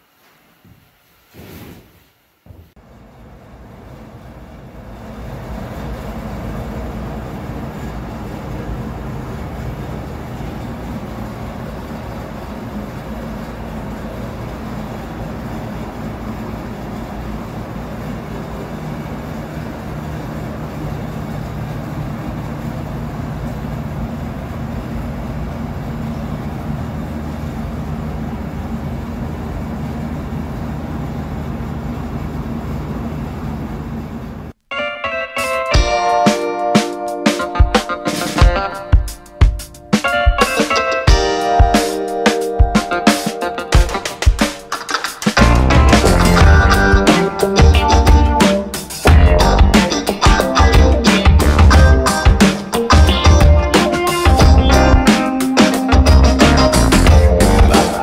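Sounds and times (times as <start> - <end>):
mechanical drone with low hum: 2.8 - 34.6, 41.0 - 58.0.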